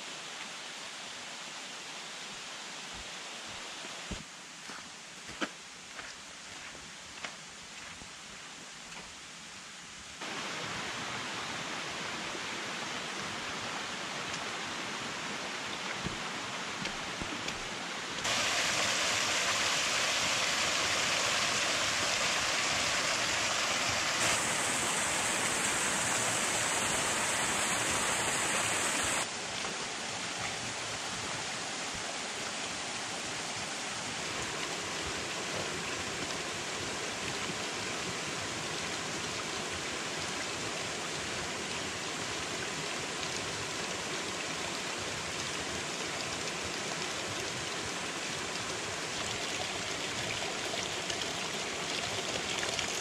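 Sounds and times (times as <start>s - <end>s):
stream rushing over rocks: 6.1s - 53.0s.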